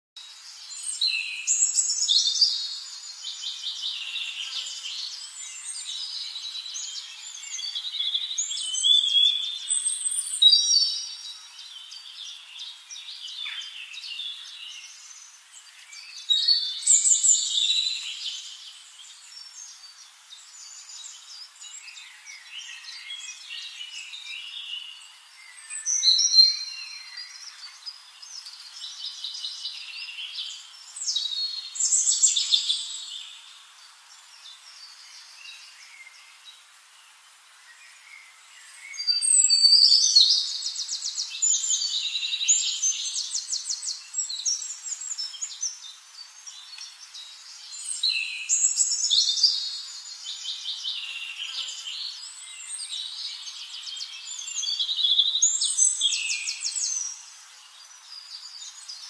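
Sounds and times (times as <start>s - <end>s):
birds chirping and singing: 0.3s - 59.0s.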